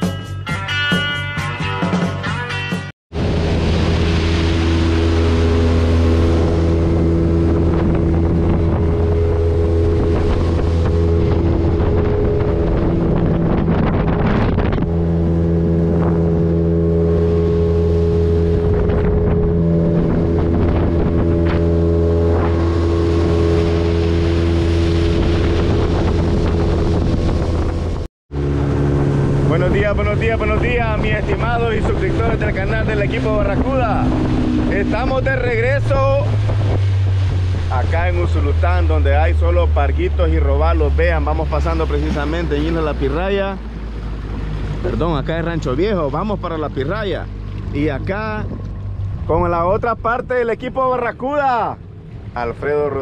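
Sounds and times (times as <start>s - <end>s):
outboard engine running: 3.1s - 53.0s
water rushing past hull: 3.1s - 53.0s
wind buffeting microphone: 3.1s - 53.0s.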